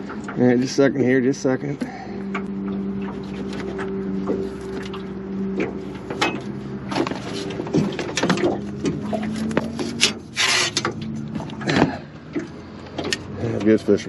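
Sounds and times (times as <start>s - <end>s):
gear and fish handled in boat: 0.0s - 14.0s
steady low hum: 0.0s - 14.0s.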